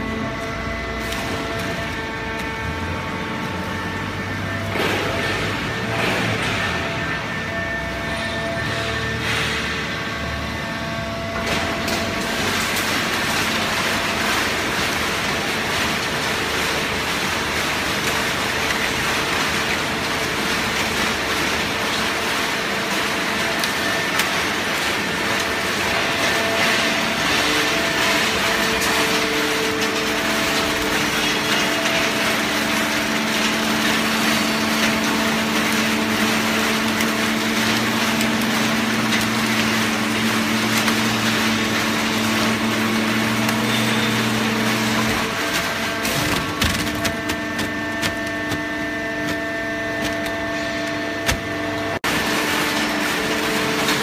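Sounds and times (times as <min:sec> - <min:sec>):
hydraulic baling press running: 0:00.0 - 0:54.0.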